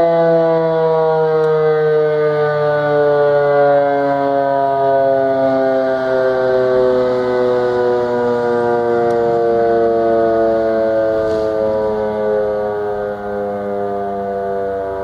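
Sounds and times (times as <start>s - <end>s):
siren wail falling in pitch: 0.0s - 15.0s.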